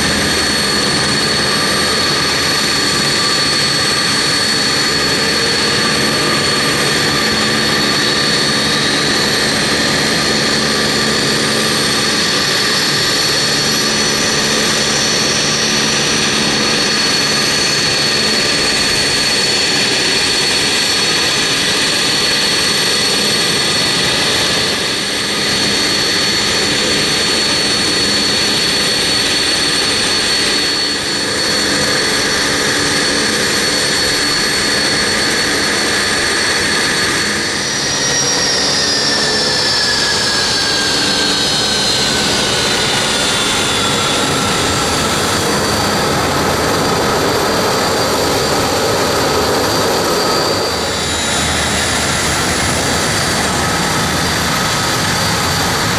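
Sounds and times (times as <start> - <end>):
jet engine whine and rush: 0.0 - 55.9
whine rising in pitch: 0.0 - 55.9.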